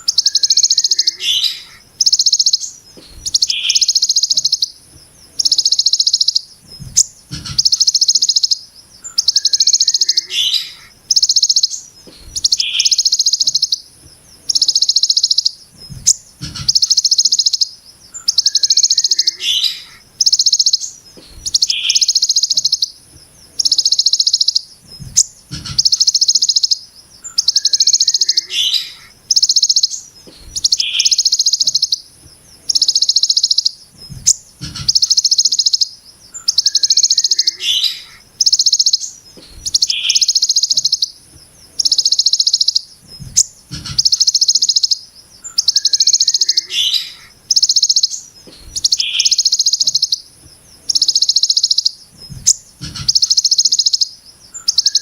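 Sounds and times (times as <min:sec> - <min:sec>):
sunbird buzzy song bursts: 0:00.0 - 0:55.0.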